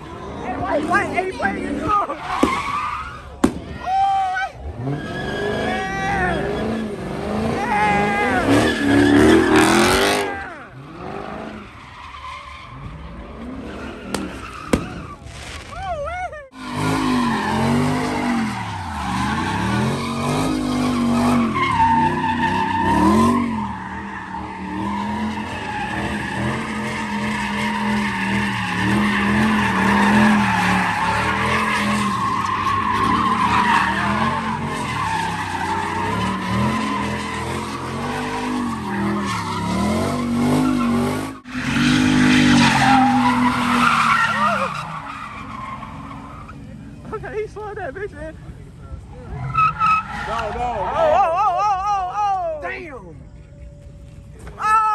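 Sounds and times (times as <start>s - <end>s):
car engines revving hard: 0.0s - 3.8s, 4.5s - 15.6s, 16.5s - 51.3s
tyres screeching: 0.0s - 48.3s.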